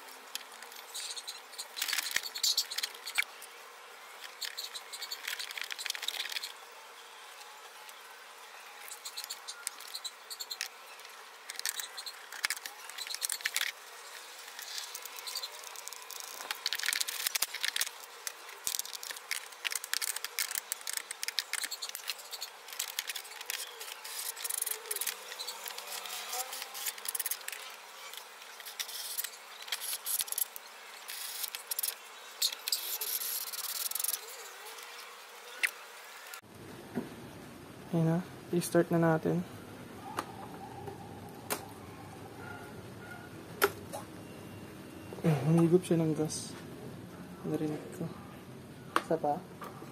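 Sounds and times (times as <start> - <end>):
steady high hiss: 0.0 - 40.0.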